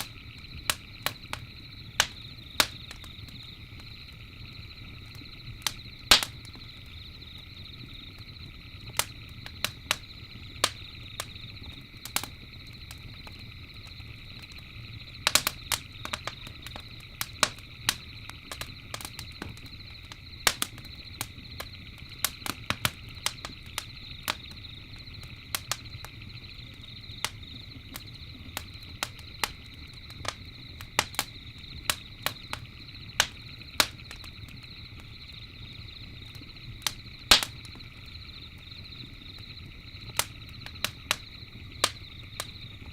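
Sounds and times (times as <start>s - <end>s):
campfire crackling and popping: 0.0s - 42.9s
night insects chorus: 0.0s - 42.9s.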